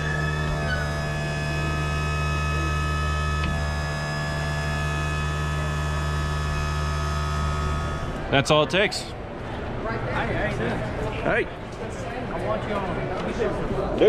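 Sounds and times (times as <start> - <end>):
machine humming: 0.0 - 11.7.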